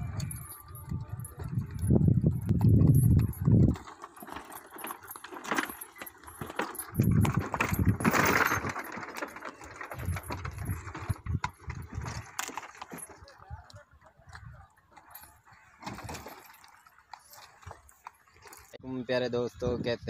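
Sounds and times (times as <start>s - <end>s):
horse hooves clopping: 0.0s - 18.8s
low cart rumbles: 0.0s - 18.8s
wooden cart rattling: 0.0s - 18.8s.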